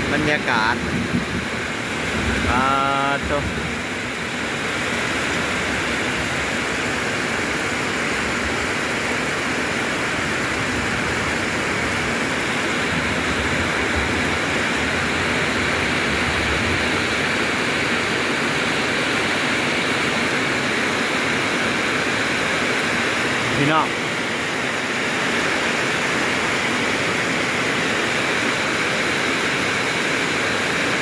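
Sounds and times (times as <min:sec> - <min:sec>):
heavy rain on leaves: 0:00.0 - 0:31.0.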